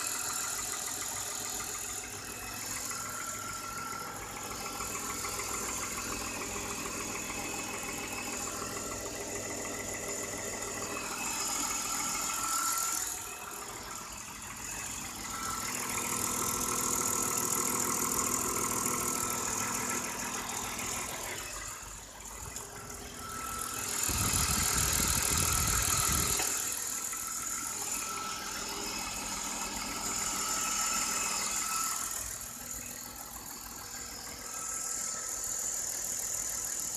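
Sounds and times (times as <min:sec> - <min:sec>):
car engine idling: 0:00.0 - 0:36.9
engine rattling: 0:00.0 - 0:36.9.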